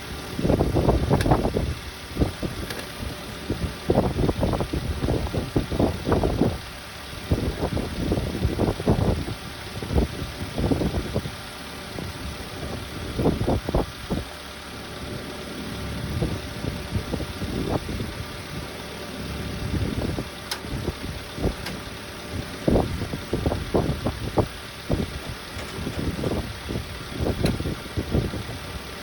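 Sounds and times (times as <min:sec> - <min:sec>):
air conditioning running: 0:00.0 - 0:29.0
truck engine idling: 0:00.0 - 0:29.0.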